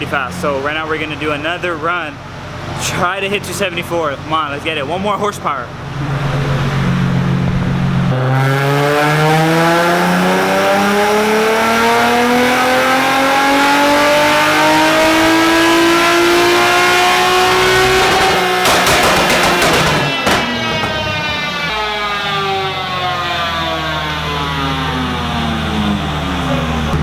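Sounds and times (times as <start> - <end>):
car engine revving: 0.0 - 27.0
exhaust crackles: 0.0 - 27.0.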